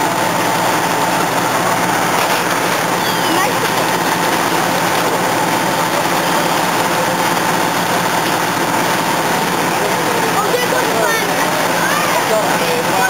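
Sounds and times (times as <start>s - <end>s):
fire truck engines running: 0.0s - 13.0s
thin steady whine: 0.0s - 13.0s.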